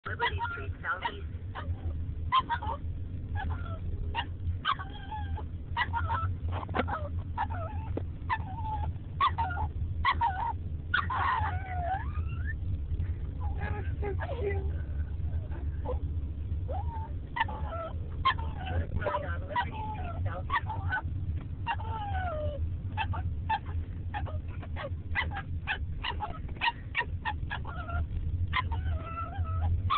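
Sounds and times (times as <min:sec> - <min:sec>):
car hum: 0:00.0 - 0:29.9
puppy howling: 0:00.2 - 0:12.6, 0:15.2 - 0:29.9
puppy whining yips: 0:01.6 - 0:12.6, 0:16.7 - 0:29.9.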